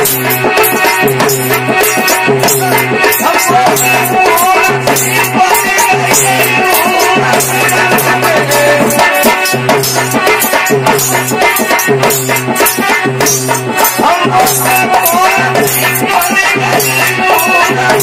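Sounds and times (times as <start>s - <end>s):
drum steady rhythm: 0.0s - 18.0s
rattling percussion strikes: 0.0s - 18.0s.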